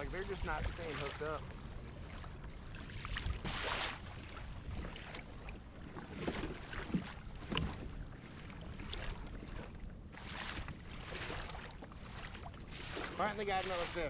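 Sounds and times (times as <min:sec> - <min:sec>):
water lapping against kayak hull: 0:00.0 - 0:14.0.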